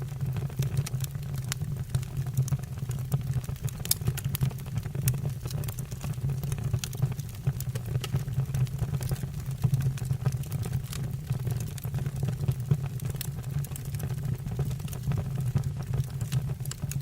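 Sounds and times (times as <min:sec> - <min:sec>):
crackles and pops of burning logs: 0:00.0 - 0:17.0
low roar of flames: 0:00.0 - 0:17.0.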